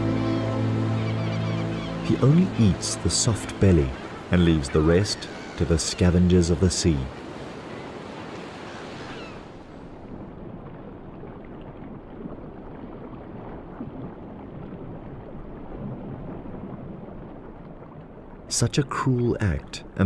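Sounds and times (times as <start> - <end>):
water lapping and splashing: 0.0 - 19.5
muffled underwater wash: 0.0 - 20.0.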